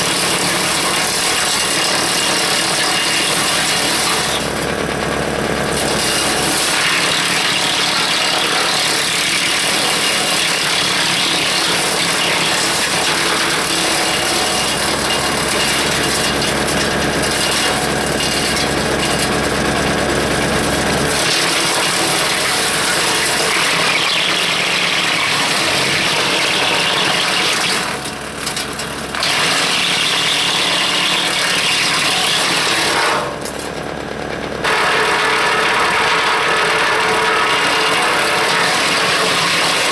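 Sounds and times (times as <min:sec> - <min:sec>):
tractor engine: 0:00.0 - 0:39.9
wood chipper chipping branches: 0:00.0 - 0:39.9.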